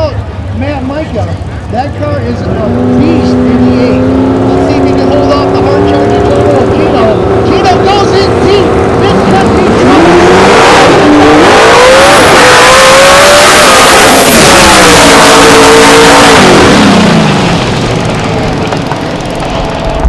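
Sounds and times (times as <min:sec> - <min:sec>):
drag racing cars at full throttle: 0:00.0 - 0:20.0.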